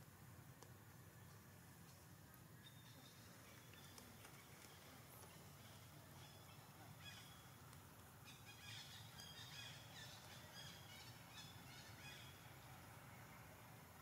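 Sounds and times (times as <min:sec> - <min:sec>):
low steady hum: 0:00.0 - 0:14.0
faint birds chirping: 0:00.1 - 0:14.0.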